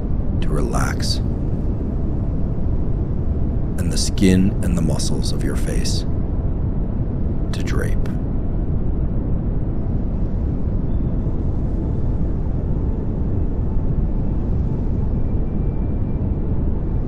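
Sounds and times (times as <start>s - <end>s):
pink noise hiss: 0.0s - 17.0s.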